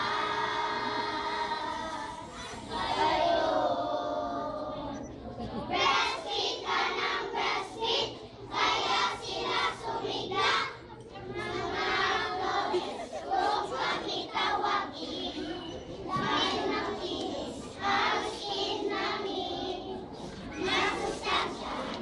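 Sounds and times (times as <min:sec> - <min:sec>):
children shouting and singing: 0:00.0 - 0:04.9, 0:08.8 - 0:22.0.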